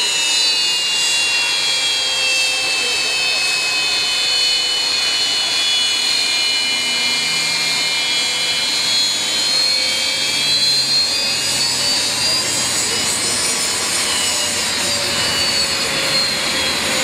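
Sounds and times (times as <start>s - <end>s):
high whining engine tones: 0.0s - 17.0s
jet aircraft passing: 0.0s - 17.0s.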